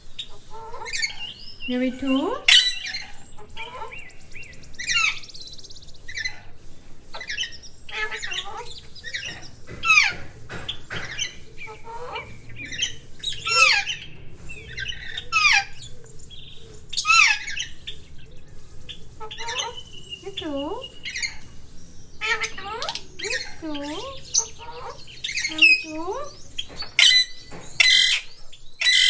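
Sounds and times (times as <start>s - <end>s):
parrot squawking: 0.4s - 5.5s, 7.1s - 18.0s, 18.8s - 29.0s.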